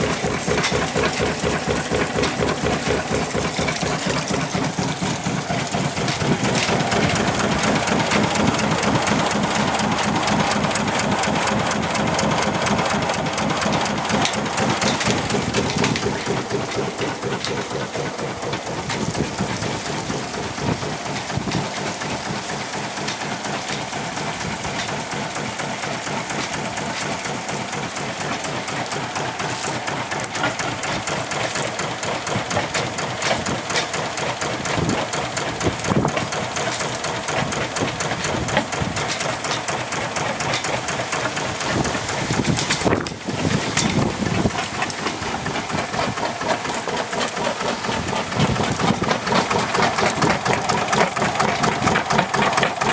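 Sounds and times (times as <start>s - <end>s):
diesel engine knocking: 0.0s - 52.9s.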